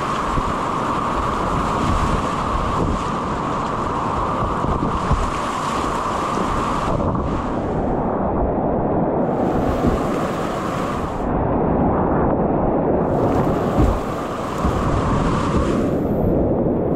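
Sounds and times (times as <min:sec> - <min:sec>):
river rapid rushing: 0:00.0 - 0:08.5, 0:09.2 - 0:11.3, 0:13.1 - 0:16.2.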